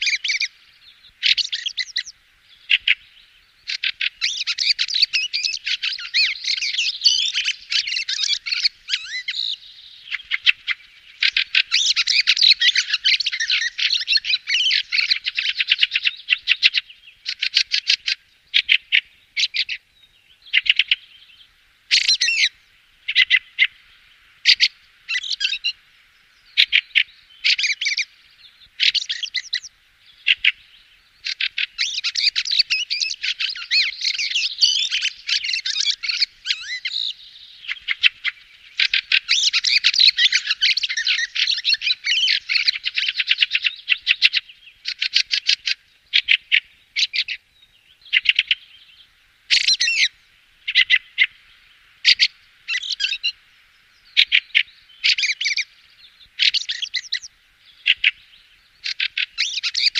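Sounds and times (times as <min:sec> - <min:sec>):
bird chattering song: 0:00.0 - 0:59.9.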